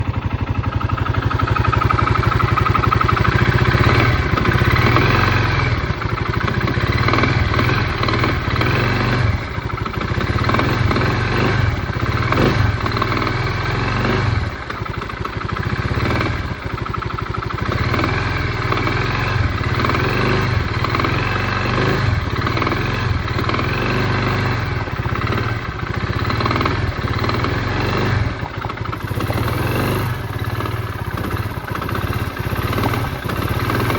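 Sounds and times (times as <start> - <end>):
quad engine revving: 0.0 - 33.9.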